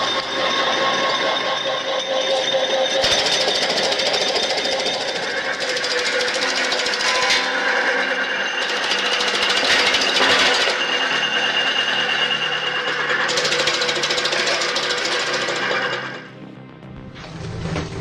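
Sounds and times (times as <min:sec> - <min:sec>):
machine rattling: 0:00.0 - 0:16.3
machine whine: 0:00.0 - 0:18.0.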